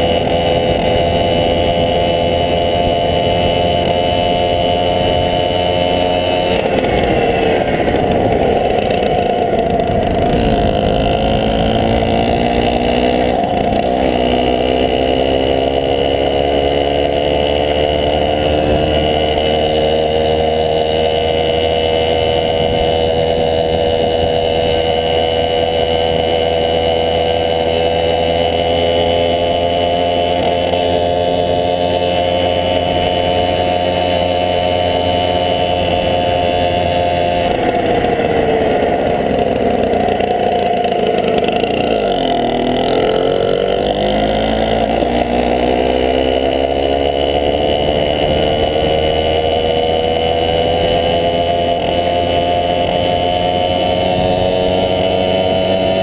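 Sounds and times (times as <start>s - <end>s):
moped two-stroke engine running: 0.0s - 56.0s.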